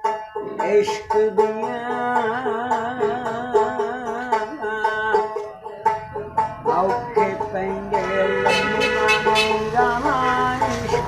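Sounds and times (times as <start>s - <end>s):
plucked strings: 0.0s - 11.0s
person singing: 0.3s - 5.8s, 6.6s - 11.0s.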